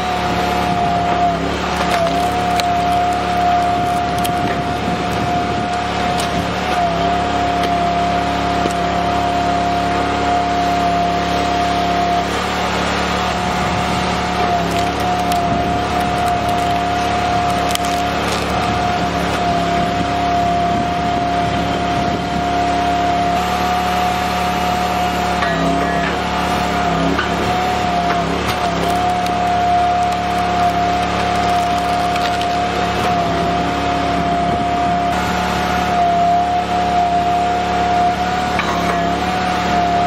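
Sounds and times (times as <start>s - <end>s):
wood cracking and splintering: 0.0s - 21.2s, 23.1s - 40.0s
log splitter whining: 0.0s - 40.0s.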